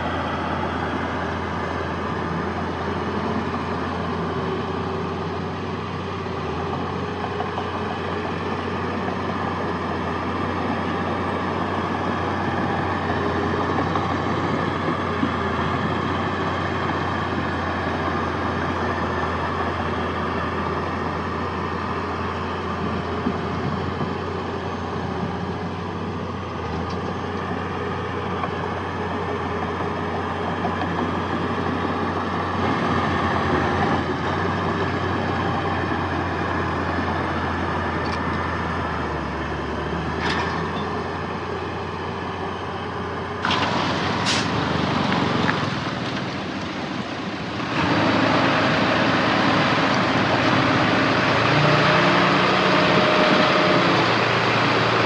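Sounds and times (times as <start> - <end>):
heavy diesel machinery engines: 0.0 - 55.0.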